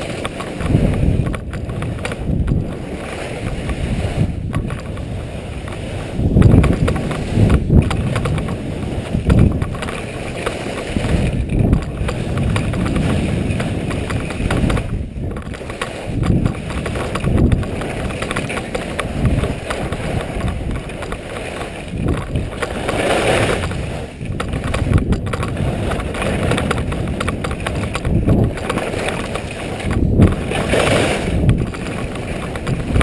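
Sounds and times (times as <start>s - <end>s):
skis scraping over snow: 0.0s - 33.0s
wind buffeting microphone: 0.0s - 33.0s.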